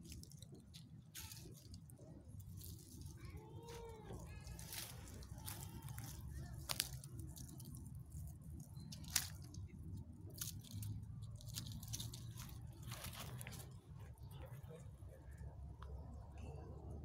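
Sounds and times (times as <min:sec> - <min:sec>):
twigs and leaves crackling: 0:00.0 - 0:16.9
low steady rumble: 0:00.0 - 0:17.0.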